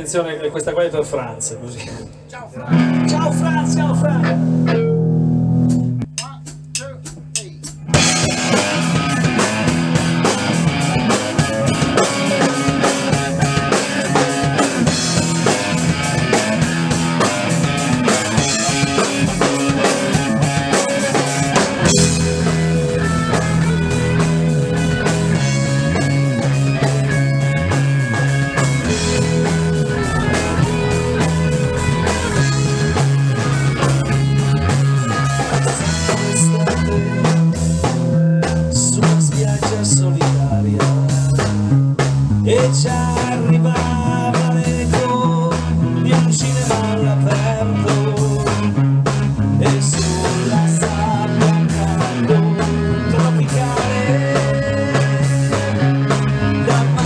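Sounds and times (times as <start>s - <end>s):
rock band playing: 2.1s - 57.0s.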